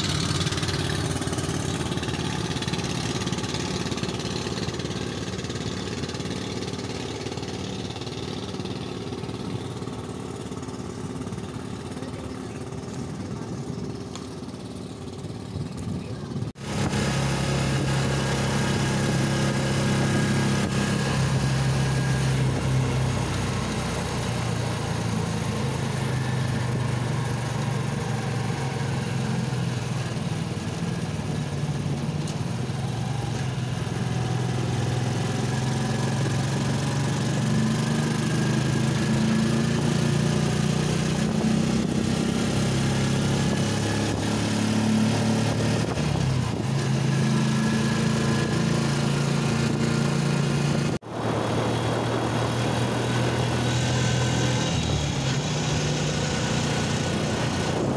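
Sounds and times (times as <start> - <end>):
vehicle engine running: 0.0 - 57.9.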